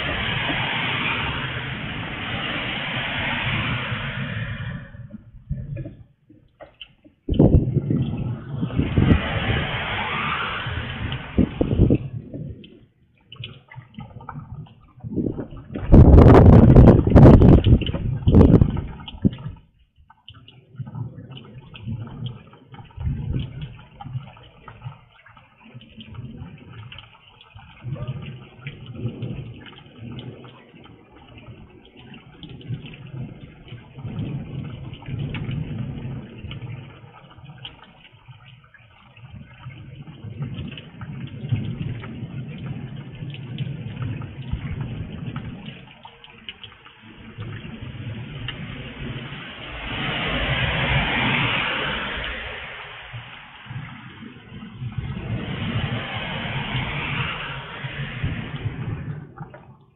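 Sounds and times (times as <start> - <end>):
heavy rain pouring and dripping: 0.0 - 59.9
low rumbles: 0.0 - 59.9.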